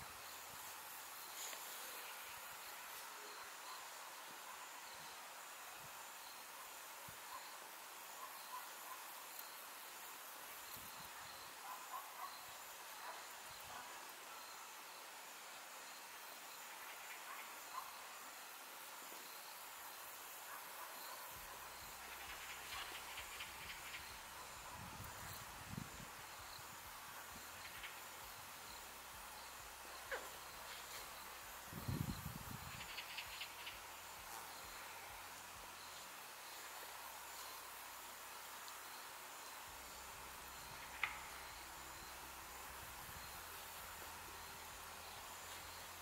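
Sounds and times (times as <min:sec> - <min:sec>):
insects chirring: 0:00.0 - 0:46.0
steady high hiss: 0:00.0 - 0:46.0.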